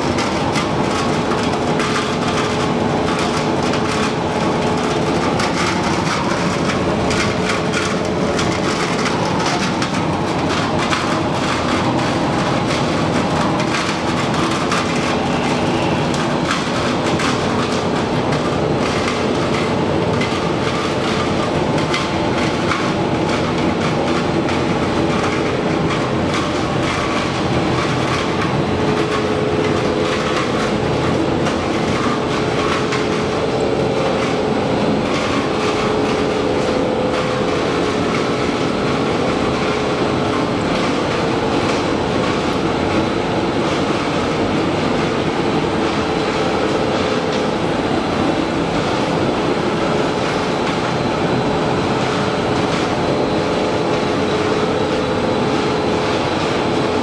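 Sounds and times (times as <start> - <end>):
production line machinery clattering: 0.0 - 57.0.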